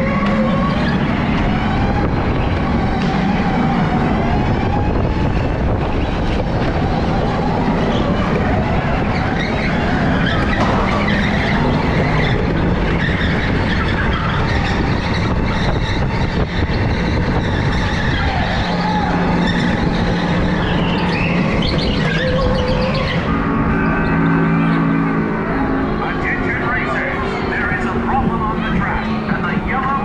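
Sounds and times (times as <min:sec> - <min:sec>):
go-kart motor and tyre noise: 0:00.0 - 0:30.0.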